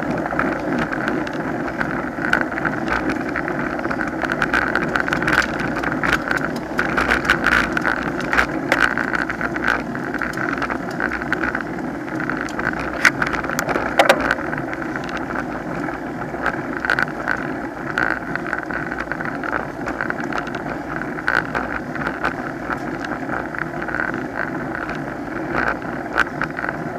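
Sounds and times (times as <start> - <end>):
small clicks and rattles: 0.0 - 26.9
wind and road noise: 0.0 - 26.9.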